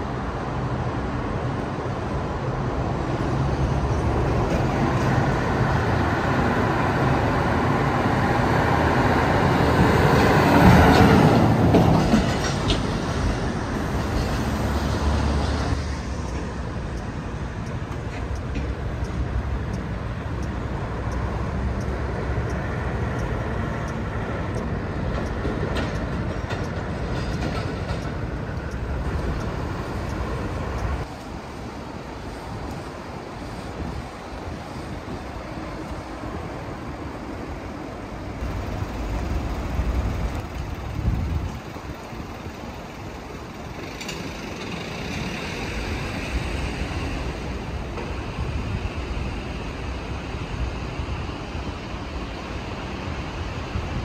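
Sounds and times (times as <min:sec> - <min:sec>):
low rumble of traffic: 0:00.0 - 0:54.0.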